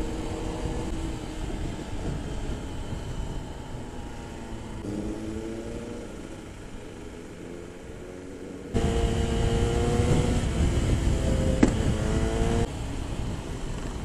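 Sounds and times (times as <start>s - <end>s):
wind rushing over microphone: 0.0s - 6.3s, 8.7s - 14.0s
motorcycle engine running: 0.0s - 14.0s.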